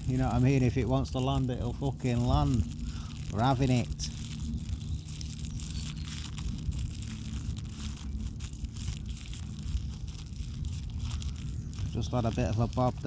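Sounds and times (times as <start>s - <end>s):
rustling and crackling: 0.0s - 13.0s
steady low rumble: 0.0s - 13.0s.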